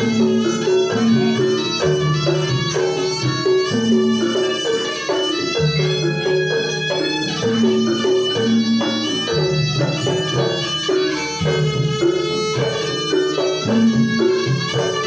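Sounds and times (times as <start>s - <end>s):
hand drums: 0.0s - 15.0s
nasal reed melody: 0.0s - 15.0s.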